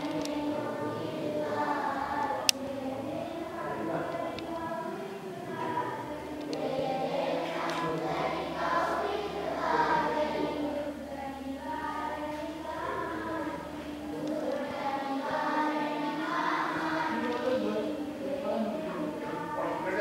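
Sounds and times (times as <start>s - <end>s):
steady low hum: 0.0s - 20.0s
voices singing together: 0.0s - 20.0s.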